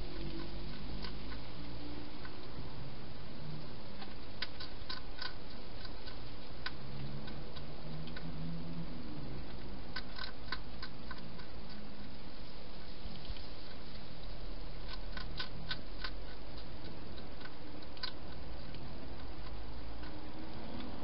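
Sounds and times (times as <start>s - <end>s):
hedgehog crunching food: 0.0s - 21.0s.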